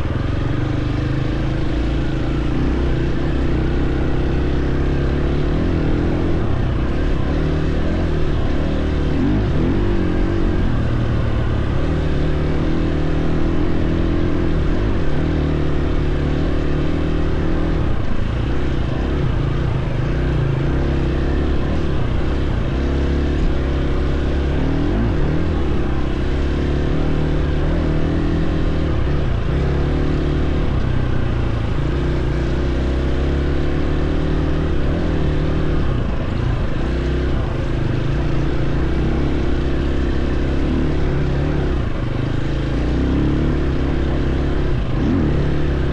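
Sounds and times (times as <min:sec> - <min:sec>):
dirt bike engine running: 0:00.0 - 0:45.9.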